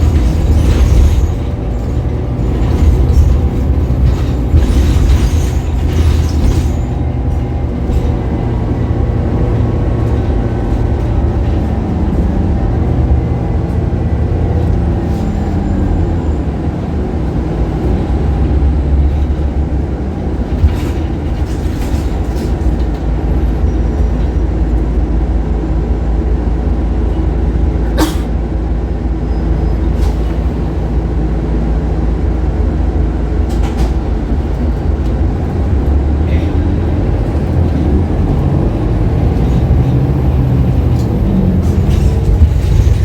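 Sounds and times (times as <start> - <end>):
bus diesel engine rumbling: 0.0 - 43.0.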